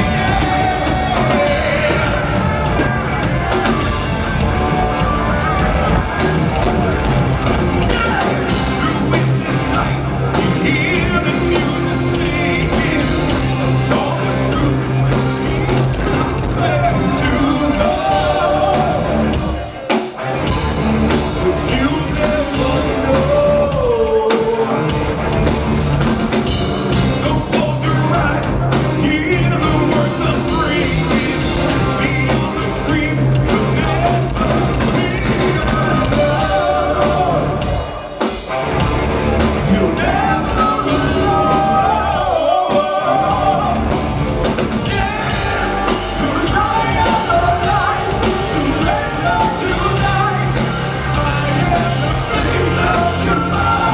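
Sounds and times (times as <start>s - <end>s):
man singing: 0.0s - 3.0s, 7.8s - 19.9s, 21.1s - 25.1s, 26.9s - 38.2s, 39.4s - 53.9s
heavy rock band playing: 0.0s - 53.9s.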